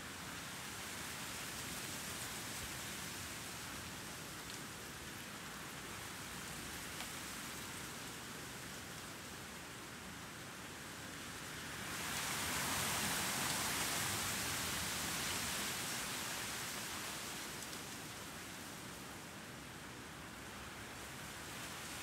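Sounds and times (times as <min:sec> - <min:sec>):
light city noise: 0:00.0 - 0:22.0
wind hiss: 0:00.0 - 0:22.0.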